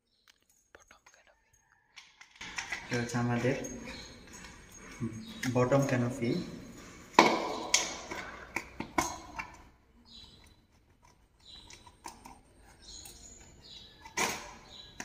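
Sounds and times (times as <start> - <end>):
handling and rustling: 2.3 - 15.0.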